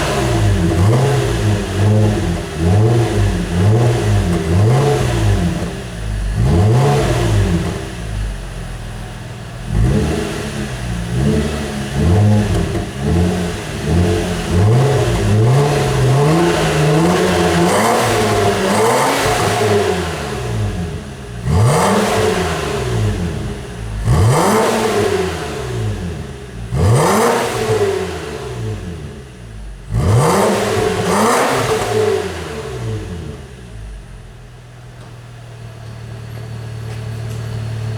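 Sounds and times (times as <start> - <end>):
car engine revving: 0.0 - 34.6.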